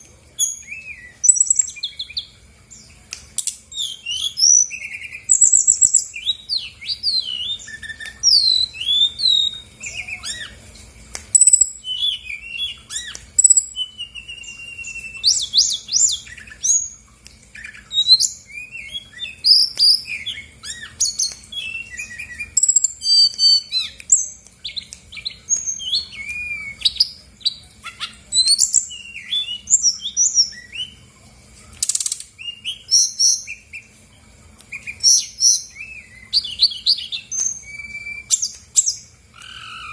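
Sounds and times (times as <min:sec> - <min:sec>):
bird singing whistles and trills: 0:00.4 - 0:10.6, 0:11.3 - 0:31.0, 0:31.8 - 0:34.0, 0:34.7 - 0:39.9.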